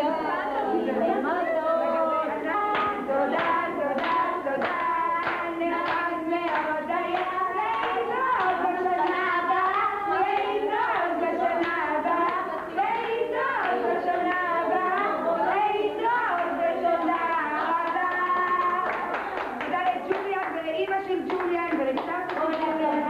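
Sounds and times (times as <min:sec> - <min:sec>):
voices singing along: 0:00.0 - 0:19.4
people clapping in rhythm: 0:00.0 - 0:23.0.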